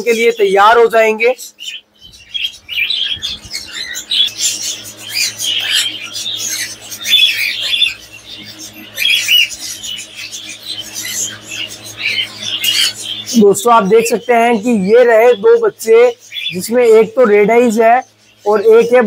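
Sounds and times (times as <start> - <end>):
low steady hum: 0.0 - 19.0
parrots chirping and squawking: 0.0 - 19.0.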